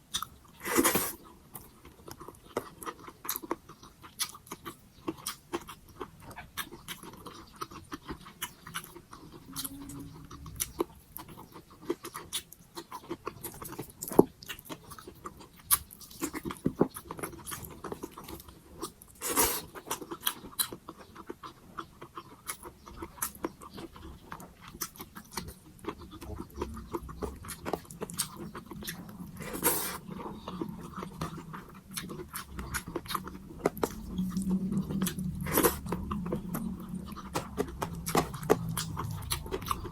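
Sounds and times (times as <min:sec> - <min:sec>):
close chewing with wet smacks: 0:00.0 - 0:39.9.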